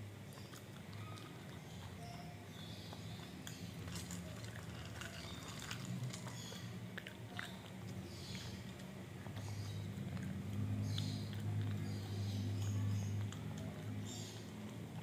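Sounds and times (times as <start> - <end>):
dog crunching hard treats: 0.2 - 15.0.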